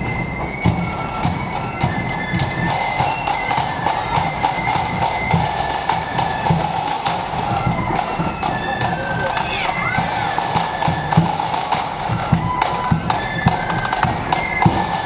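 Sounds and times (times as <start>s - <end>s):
flutes playing melody: 0.0s - 15.0s
marching drums beating: 0.0s - 15.0s.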